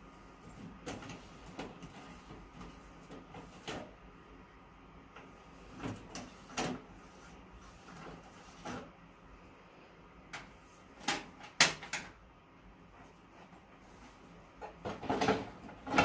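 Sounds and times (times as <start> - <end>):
photocopier faint hum: 0.0 - 16.0.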